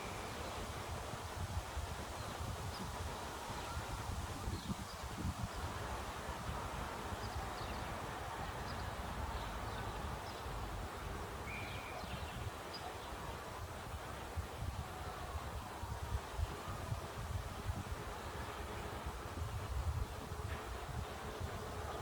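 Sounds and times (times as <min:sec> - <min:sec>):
leaves rustling in wind: 0:00.0 - 0:22.0
wind rumble on microphone: 0:00.0 - 0:22.0.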